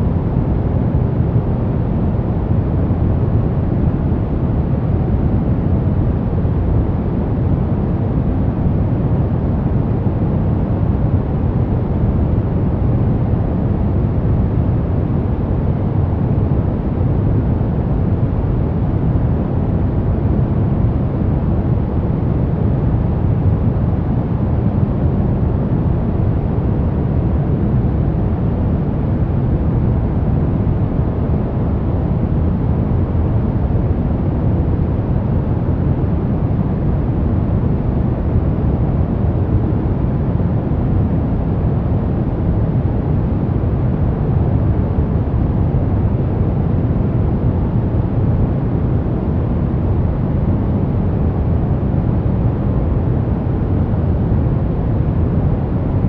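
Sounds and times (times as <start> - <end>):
deep white noise: 0.0 - 56.0.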